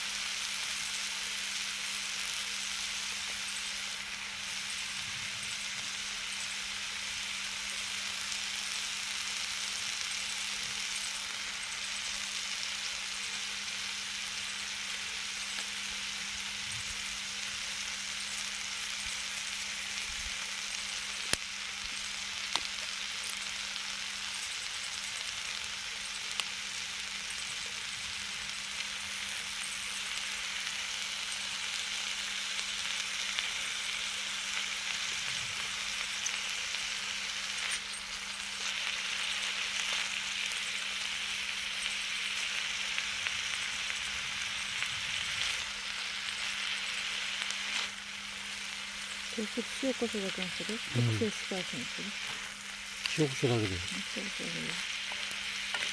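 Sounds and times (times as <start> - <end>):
food sizzling on a griddle: 0.0 - 55.9.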